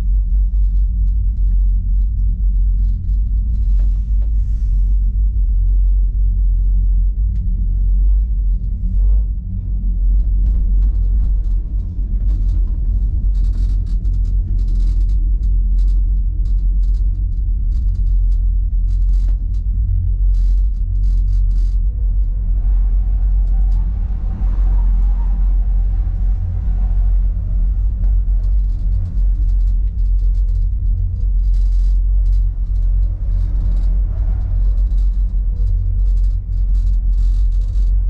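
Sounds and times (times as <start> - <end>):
gondola cabin rumbling: 0.0 - 38.0
light clicks and rattles: 0.0 - 38.0.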